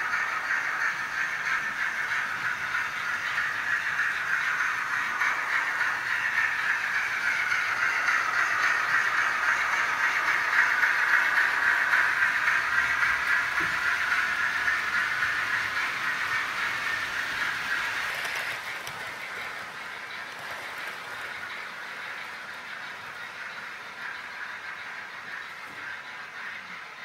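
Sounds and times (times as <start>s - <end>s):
model train wheels rattling on rails: 0.0s - 27.0s.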